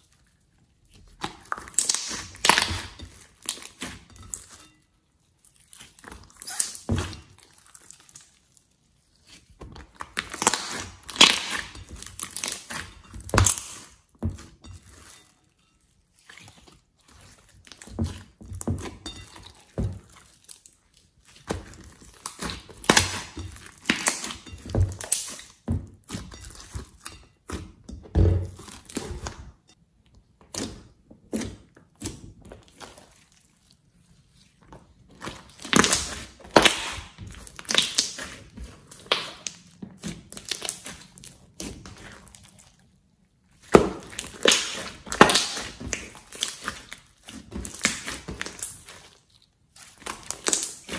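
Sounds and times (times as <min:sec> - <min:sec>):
slime squelching by hand: 0:00.0 - 0:50.9.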